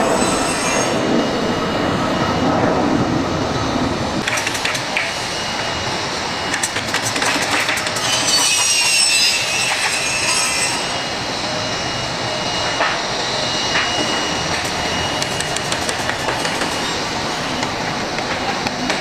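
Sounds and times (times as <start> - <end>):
high engine whine: 0.0 - 19.0
jet engines rushing: 0.0 - 19.0.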